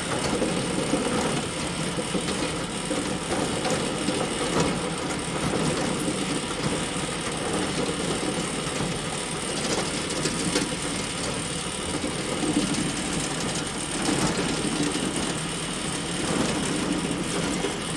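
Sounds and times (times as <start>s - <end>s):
hay bale elevator running: 0.0s - 17.9s.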